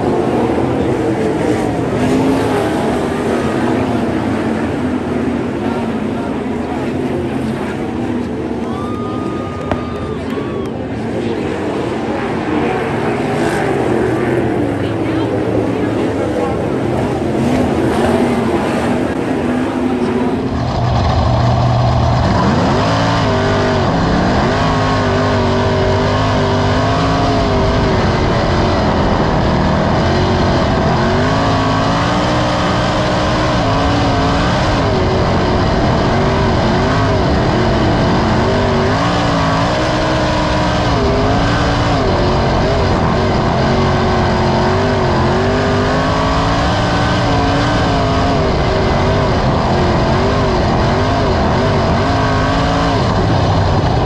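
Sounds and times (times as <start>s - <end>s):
racing engine running hard: 0.0s - 54.0s.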